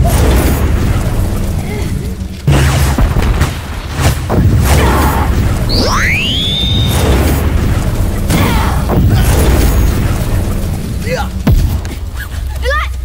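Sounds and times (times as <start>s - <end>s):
booms and hits: 0.0s - 12.2s.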